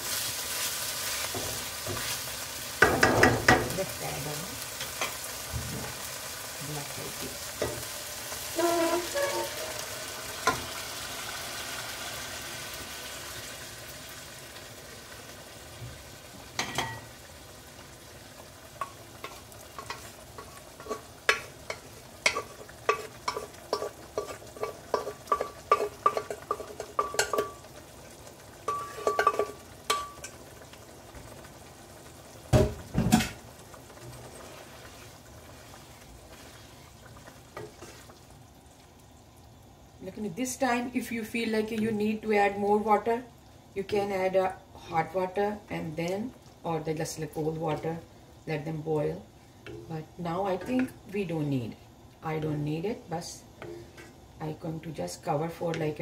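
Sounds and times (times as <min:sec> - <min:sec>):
liquid sizzling in hot pan: 0:00.0 - 0:56.0.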